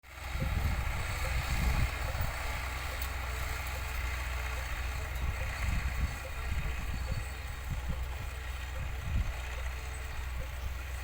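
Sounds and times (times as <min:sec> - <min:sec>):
tractor diesel engine drone: 0:00.0 - 0:11.0.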